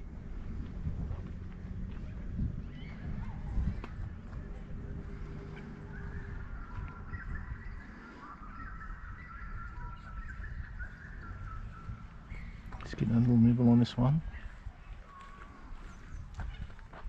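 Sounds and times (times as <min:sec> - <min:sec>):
wind rumble on microphone: 0:00.0 - 0:17.0
birds calling: 0:02.0 - 0:16.9.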